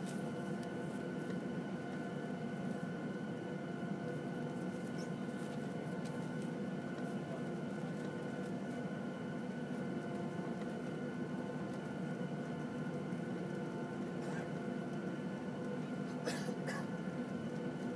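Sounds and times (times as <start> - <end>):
jet engine rumble and whine: 0.0 - 17.9.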